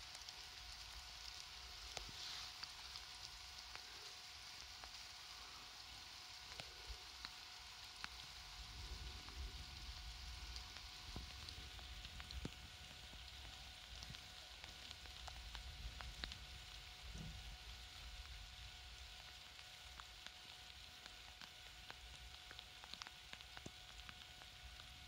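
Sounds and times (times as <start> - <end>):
light rain hiss: 0.0 - 25.0
raindrops ticking: 0.0 - 25.0.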